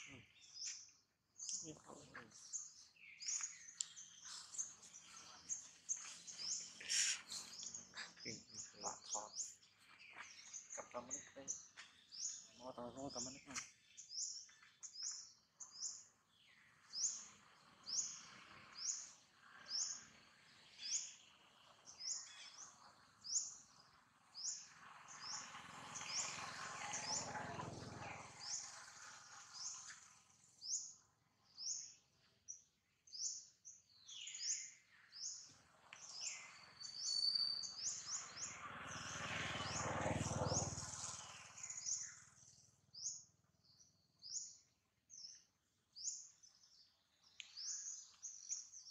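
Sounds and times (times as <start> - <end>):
bird high chirp: 0.0 - 32.0, 32.6 - 39.8, 40.4 - 48.9.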